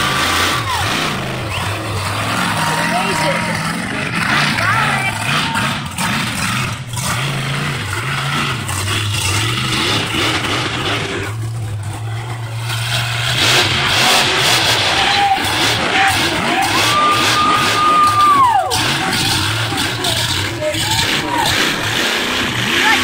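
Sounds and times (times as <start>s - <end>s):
broad rushing noise: 0.0s - 23.0s
monster truck engine revving: 0.0s - 23.0s.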